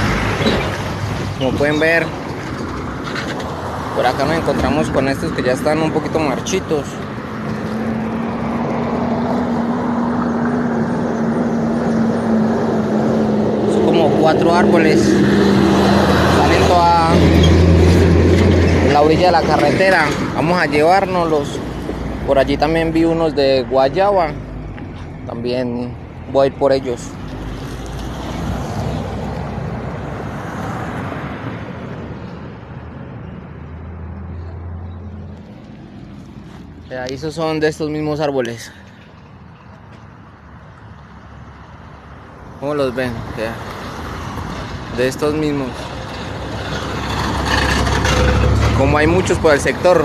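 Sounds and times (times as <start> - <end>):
roadside traffic rumble: 0.0 - 50.0.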